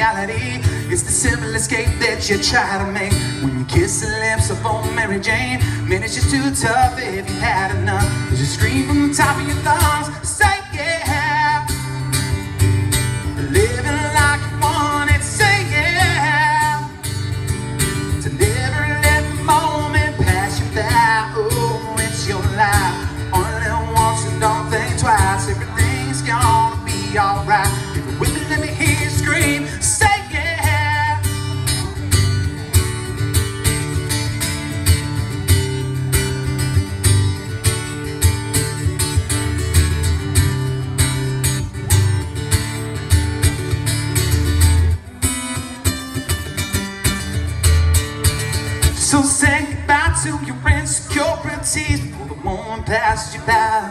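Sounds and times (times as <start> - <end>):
bass line: 0.0 - 45.2
amplified acoustic guitar strumming: 0.0 - 53.9.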